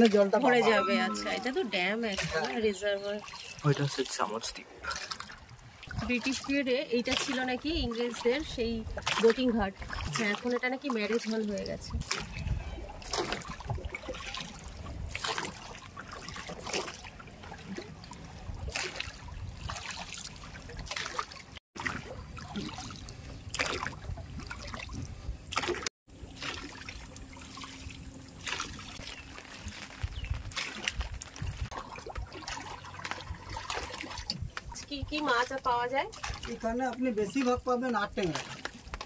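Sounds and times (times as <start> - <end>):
water trickling against boat: 0.0 - 39.0.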